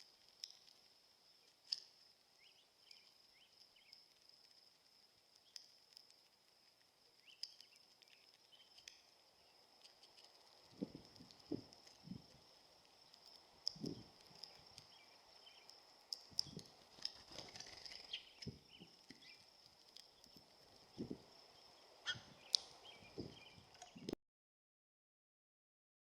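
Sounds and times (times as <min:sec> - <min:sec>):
birds pecking on feeder: 0:00.0 - 0:24.1
faint bird chirps: 0:00.0 - 0:24.2
faint high-pitched whine: 0:00.0 - 0:24.2.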